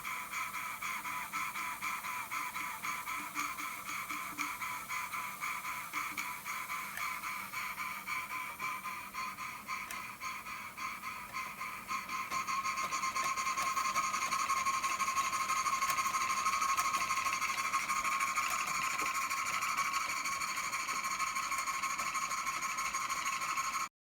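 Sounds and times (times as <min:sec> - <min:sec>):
toy steam engine pulsing with hiss: 0:00.0 - 0:23.9.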